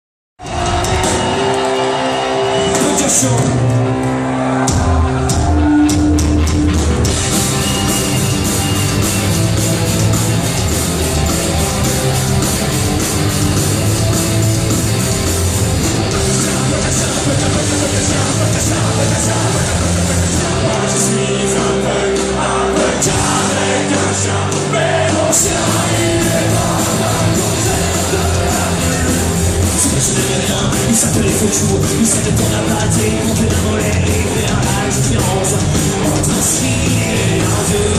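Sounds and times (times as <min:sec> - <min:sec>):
bass: 0:00.4 - 0:37.9
drums: 0:00.4 - 0:37.9
live punk rock band: 0:00.4 - 0:37.9
electric guitar: 0:03.4 - 0:37.9.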